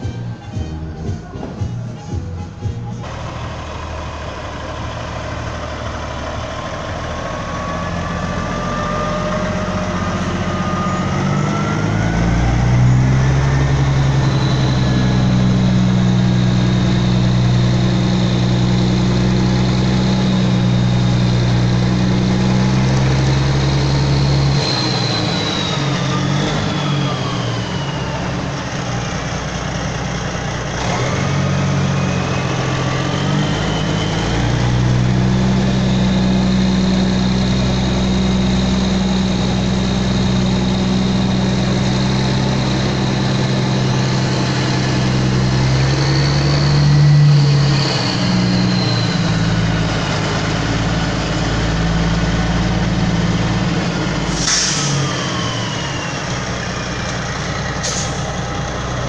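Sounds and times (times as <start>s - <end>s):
truck diesel engine humming: 0.0s - 59.0s.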